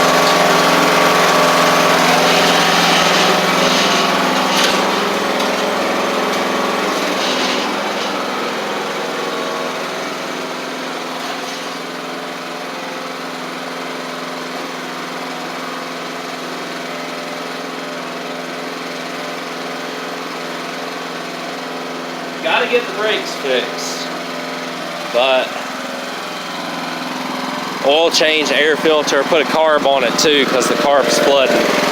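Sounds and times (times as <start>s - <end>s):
lawn tractor engine running: 0.0s - 31.9s.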